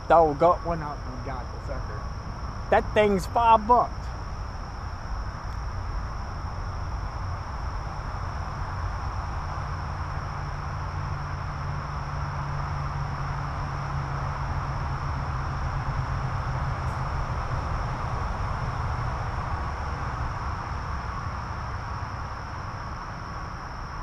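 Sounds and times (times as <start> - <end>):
high thin insect drone: 0.0 - 24.0
low outdoor rumble: 0.0 - 24.0
low steady hum: 0.0 - 24.0.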